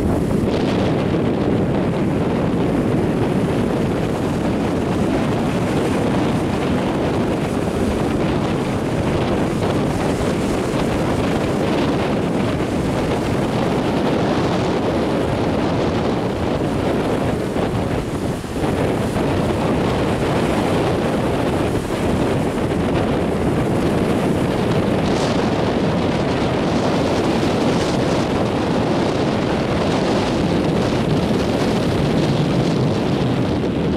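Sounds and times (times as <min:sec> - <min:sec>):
small waves washing on beach: 0:00.0 - 0:33.9
wind buffeting microphone: 0:00.0 - 0:33.9.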